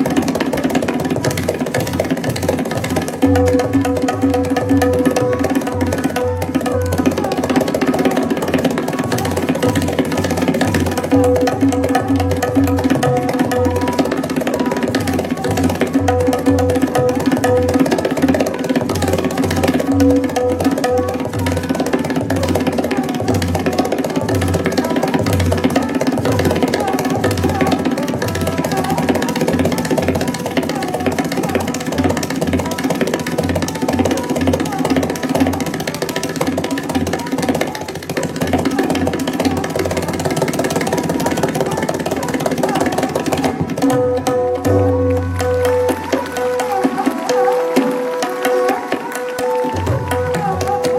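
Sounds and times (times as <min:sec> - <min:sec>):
tabla drumming: 0:00.0 - 0:50.9.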